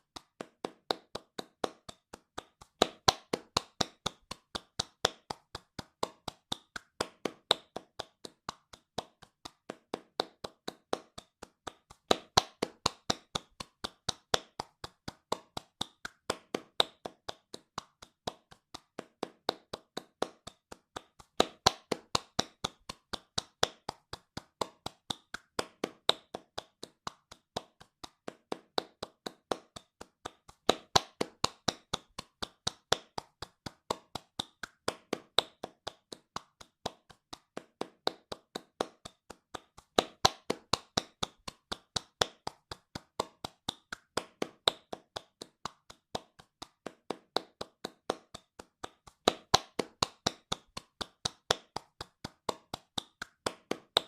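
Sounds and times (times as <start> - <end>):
hands clapping fast: 0.0 - 54.0.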